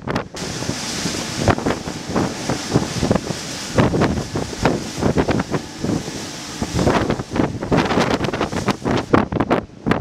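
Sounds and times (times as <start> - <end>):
water rushing past boat: 0.0 - 10.0
wind buffeting microphone: 0.0 - 10.0.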